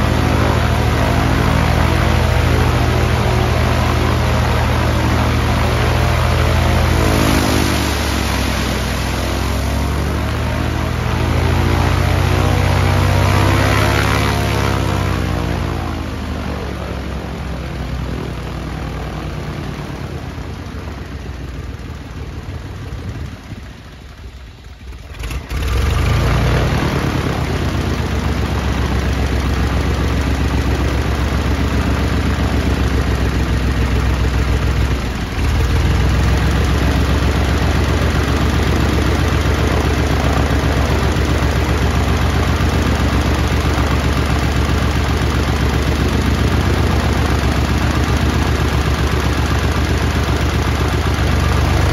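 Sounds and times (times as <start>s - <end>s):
aircraft engine running: 0.0s - 51.9s.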